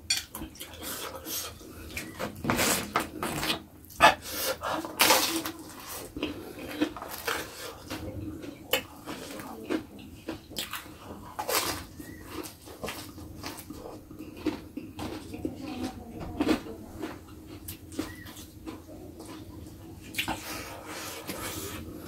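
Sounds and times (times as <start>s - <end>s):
person chewing with wet smacking: 0.0s - 22.0s.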